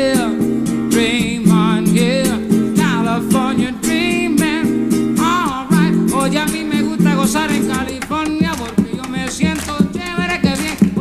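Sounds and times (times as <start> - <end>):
acoustic guitar: 0.0 - 11.0
man singing wordless vocal: 0.0 - 11.0.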